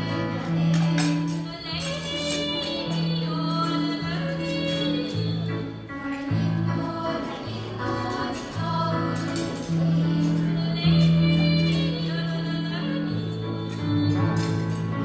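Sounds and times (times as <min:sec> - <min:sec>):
children's choir singing: 0:00.0 - 0:15.0
low instrumental accompaniment: 0:00.0 - 0:15.0.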